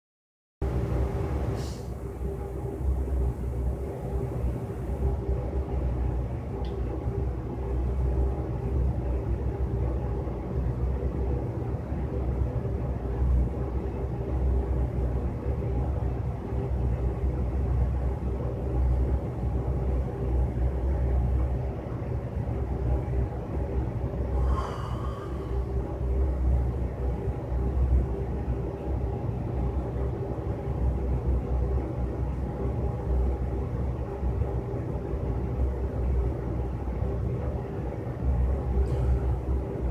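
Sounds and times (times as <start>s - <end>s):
constant hum: 0.6s - 39.9s
low rumble: 0.6s - 39.9s.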